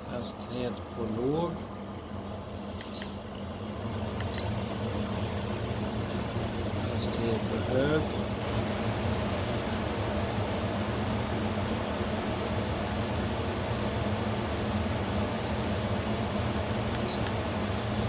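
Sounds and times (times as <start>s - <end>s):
air conditioner fan drone: 0.0s - 18.0s.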